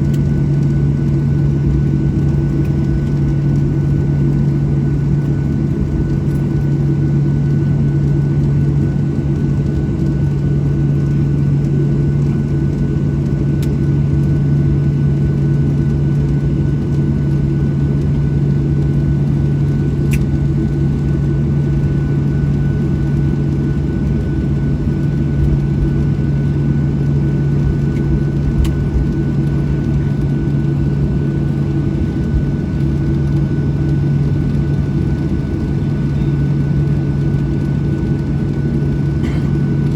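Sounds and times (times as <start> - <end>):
aircraft cabin low drone: 0.0 - 39.9.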